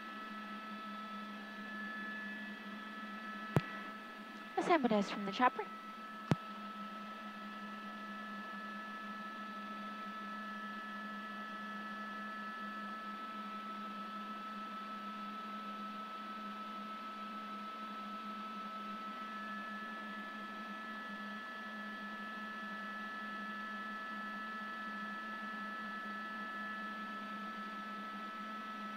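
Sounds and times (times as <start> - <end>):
helicopter cabin drone: 0.0 - 28.9.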